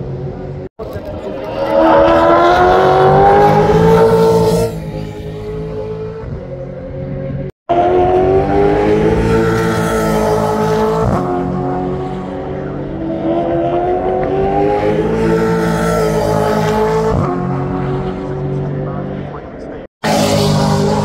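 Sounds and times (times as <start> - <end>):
race cars accelerating hard: 0.0 - 21.0.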